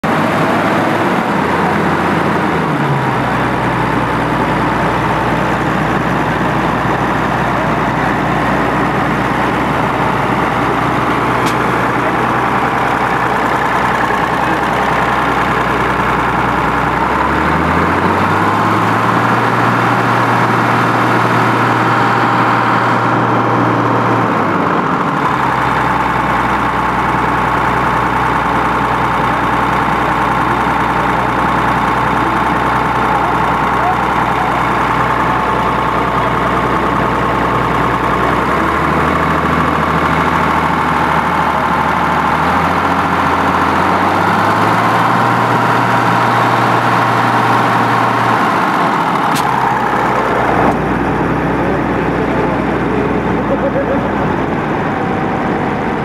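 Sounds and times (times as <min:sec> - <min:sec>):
tractor engine idling and revving: 0:00.0 - 0:56.0.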